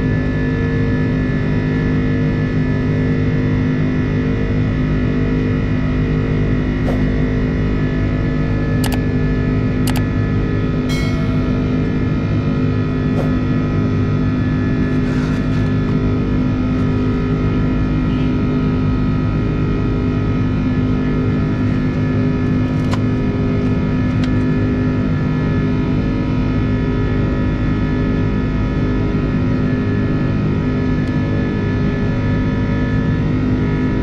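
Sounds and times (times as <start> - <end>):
jet engine drone in cabin: 0.0 - 34.0.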